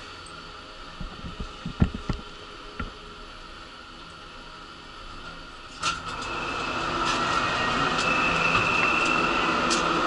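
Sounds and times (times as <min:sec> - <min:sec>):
elevator mechanical hum and whine: 0:00.0 - 0:10.0.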